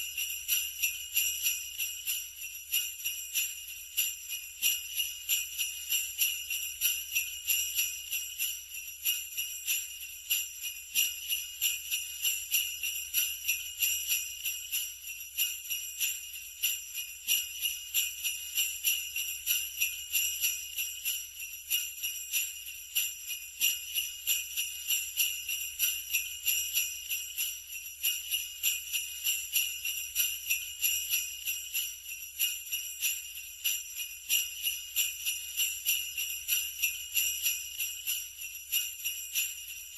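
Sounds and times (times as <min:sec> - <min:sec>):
sleigh bells jingling: 0:00.0 - 0:39.9.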